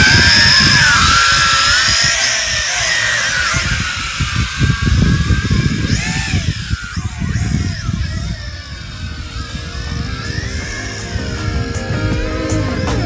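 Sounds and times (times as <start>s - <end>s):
quadcopter propellers whining: 0.0s - 13.0s
wind rumbling on microphone: 0.0s - 13.0s.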